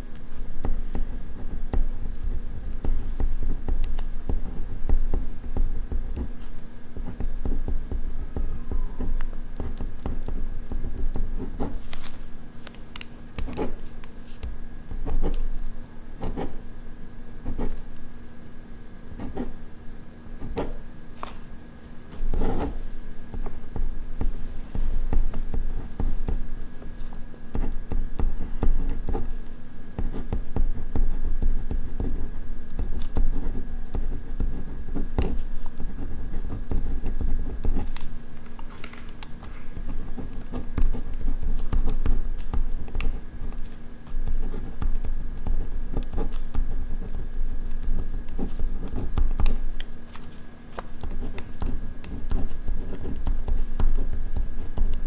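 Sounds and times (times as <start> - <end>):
faint hum: 0.0 - 55.0
ballpoint pen writing on paper: 0.3 - 12.0, 13.3 - 15.6, 16.2 - 16.6, 17.4 - 17.9, 19.1 - 19.6, 20.4 - 21.3, 22.2 - 29.4, 30.0 - 38.0, 38.6 - 55.0.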